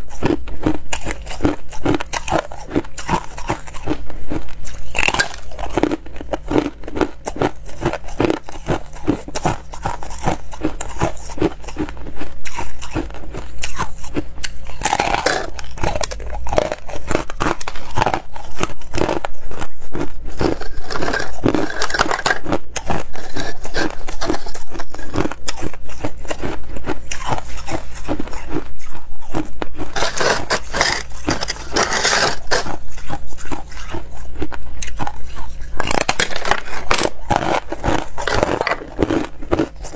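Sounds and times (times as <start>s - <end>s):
ice being chewed crunching: 0.0s - 39.9s.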